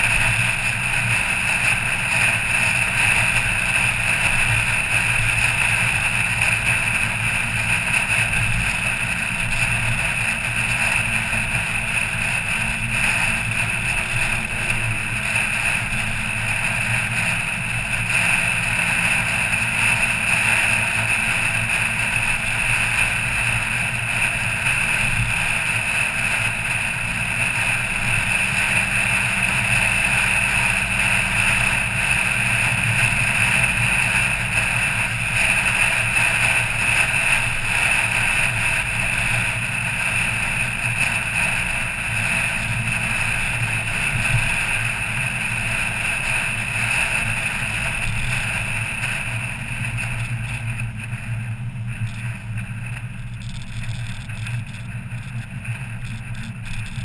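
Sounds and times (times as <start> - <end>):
car engine hum: 0.0 - 57.0
tyre and road noise: 0.0 - 57.0.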